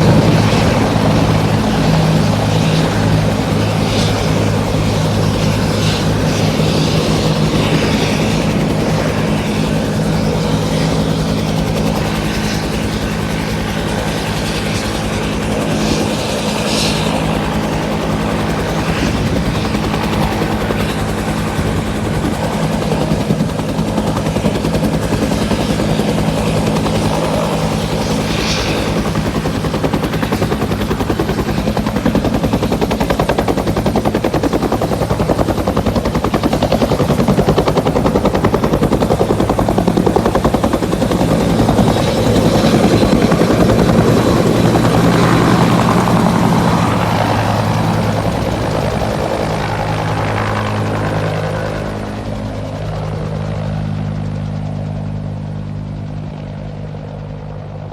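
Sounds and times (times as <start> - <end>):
helicopter turbine and rotor: 0.0 - 57.9.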